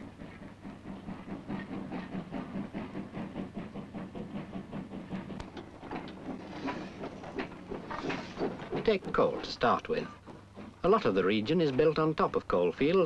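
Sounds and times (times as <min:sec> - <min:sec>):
low train rumble: 0:00.0 - 0:13.0
train wheels clattering: 0:00.0 - 0:13.0.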